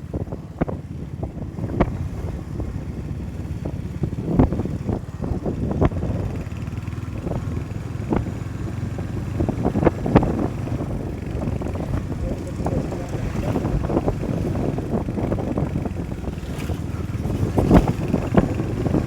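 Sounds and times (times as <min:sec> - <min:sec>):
wind buffeting microphone: 0:02.7 - 0:19.0.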